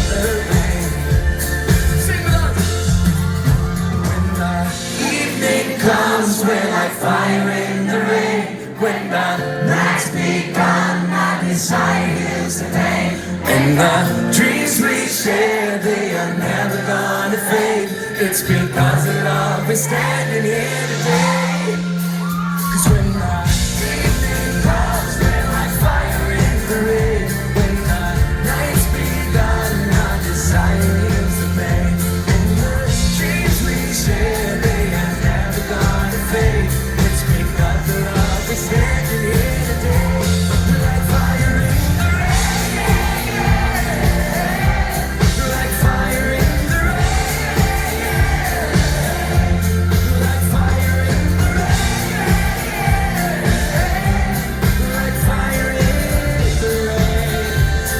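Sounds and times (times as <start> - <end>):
person singing: 0.0 - 57.9
pop-rock band playing: 0.0 - 57.9.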